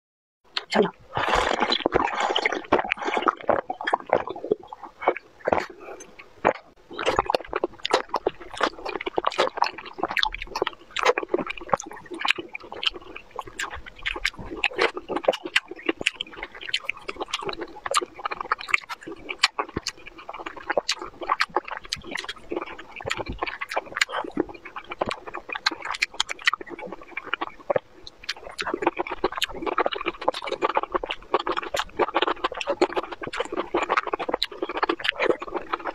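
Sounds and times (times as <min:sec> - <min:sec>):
wet chewing: 0:00.5 - 0:35.9
slurping: 0:00.6 - 0:35.9.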